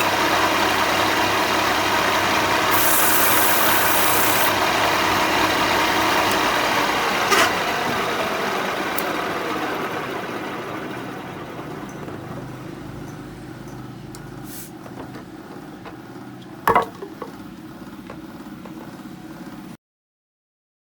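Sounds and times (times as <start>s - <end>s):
low mechanical rumble: 0.0s - 19.7s.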